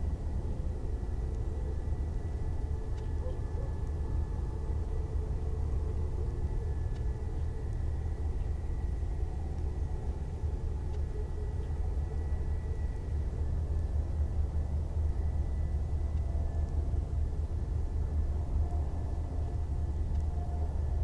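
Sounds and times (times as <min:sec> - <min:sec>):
faint high whine: 0:00.0 - 0:21.0
low rumble of trucks: 0:00.0 - 0:21.0.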